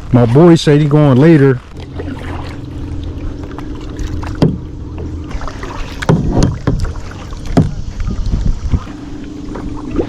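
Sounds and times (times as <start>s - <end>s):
paddle strokes and knocks: 0.0s - 10.0s
steady low hum: 0.0s - 10.0s.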